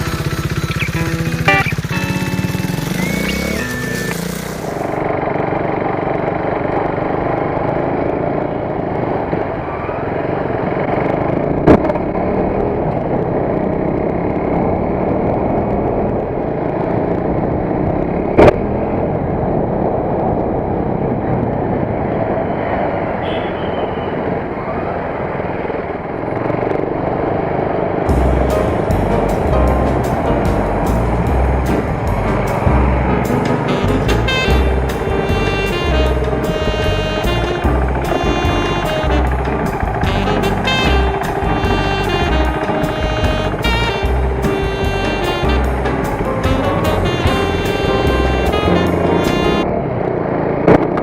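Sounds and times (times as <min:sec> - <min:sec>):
motorcycle engine running: 0:00.0 - 0:19.2, 0:26.1 - 0:51.0.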